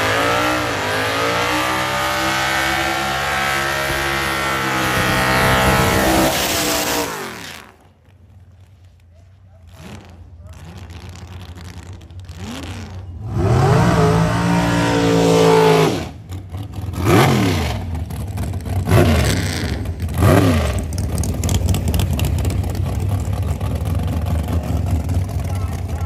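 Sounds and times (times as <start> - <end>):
race car engine revving: 0.0 - 7.9, 9.5 - 26.0.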